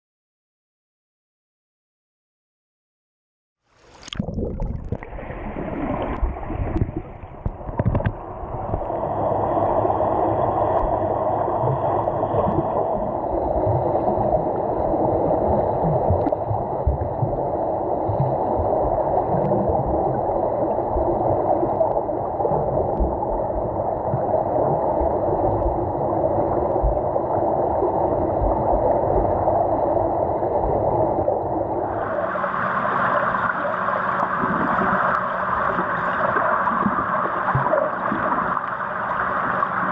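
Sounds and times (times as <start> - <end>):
underwater water rushing and gurgling: 3.8 - 39.9.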